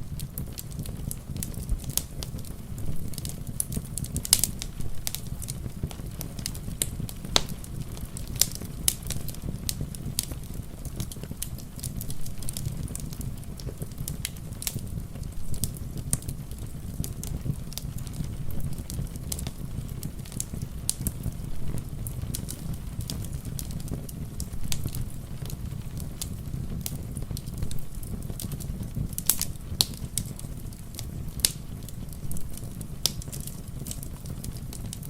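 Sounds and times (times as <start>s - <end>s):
sharp pops and snaps of fire: 0.0s - 35.0s
wood fire crackling: 0.0s - 35.0s.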